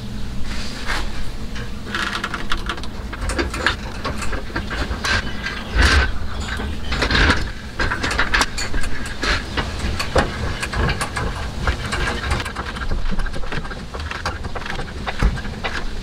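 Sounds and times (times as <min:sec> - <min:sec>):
steady low hum: 0:00.0 - 0:16.0
tools knocking and scraping: 0:01.5 - 0:16.0.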